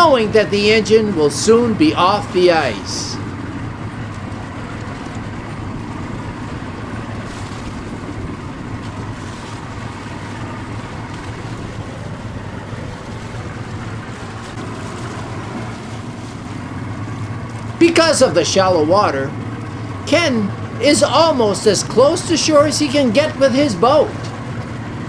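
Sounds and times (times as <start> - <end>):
engine drone: 0.0 - 25.0
tyres churning through ice and water: 0.0 - 25.0.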